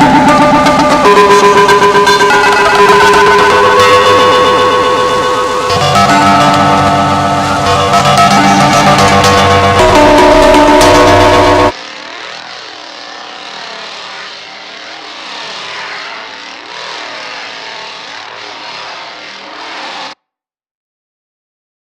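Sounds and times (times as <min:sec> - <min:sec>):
engine-like rush: 0:00.0 - 0:20.2
music: 0:00.0 - 0:20.2.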